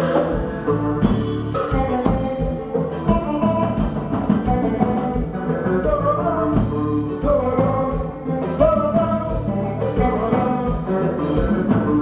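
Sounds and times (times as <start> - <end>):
congas: 0.0 - 12.0
drum kit: 0.0 - 12.0
electric bass: 0.0 - 12.0
person singing: 0.0 - 12.0.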